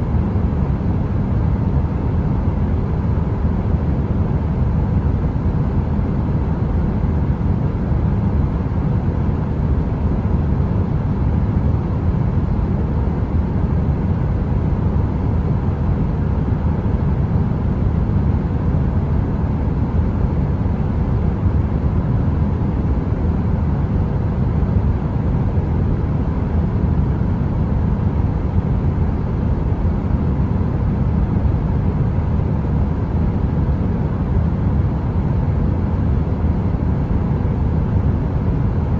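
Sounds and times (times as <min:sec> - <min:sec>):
faint hum: 0:00.0 - 0:38.9.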